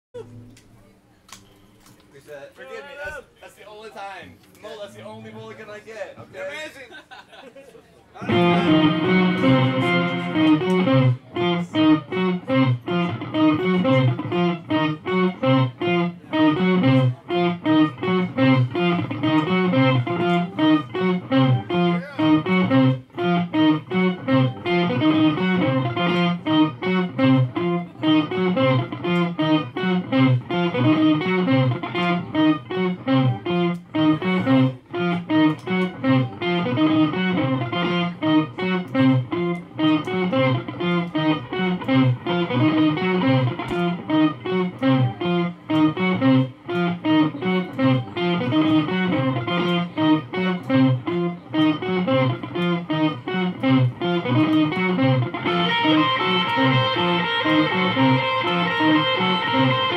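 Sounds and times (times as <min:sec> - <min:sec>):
electric guitar picked notes: 0:08.2 - 0:59.9.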